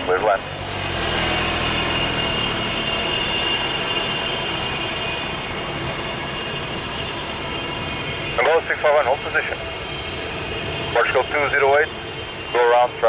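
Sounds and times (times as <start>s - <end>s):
jet airliner engines running: 0.0s - 13.0s.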